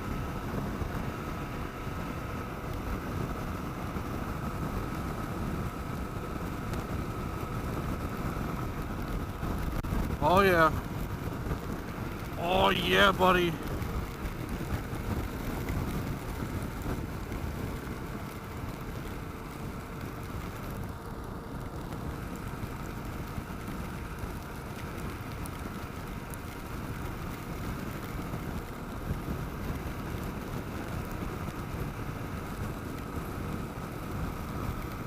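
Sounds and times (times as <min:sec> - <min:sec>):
motorcycle engine running: 0:00.0 - 0:35.0
wind and road rush: 0:00.0 - 0:35.0
rain hitting: 0:06.5 - 0:35.0.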